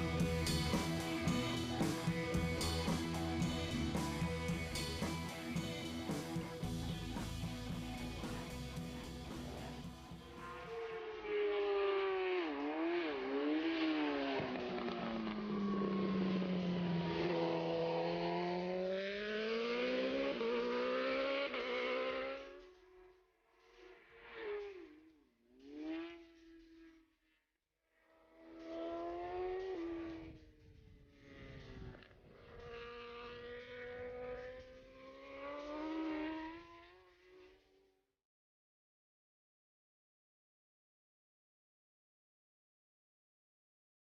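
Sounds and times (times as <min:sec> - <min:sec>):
racing motorcycle engine accelerating: 0:00.0 - 0:27.1, 0:28.2 - 0:37.8.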